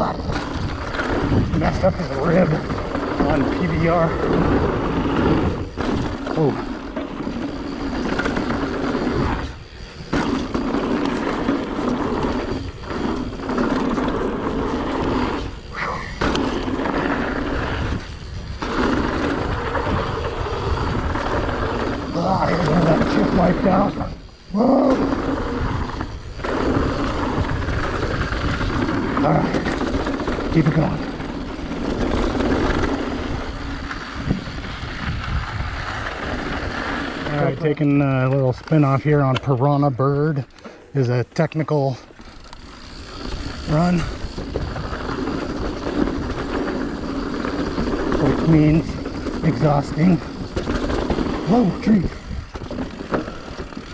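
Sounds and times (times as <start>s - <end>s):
wind rushing over microphone: 0.0s - 37.9s, 42.7s - 53.9s
bike tyres and rattle: 0.0s - 53.9s.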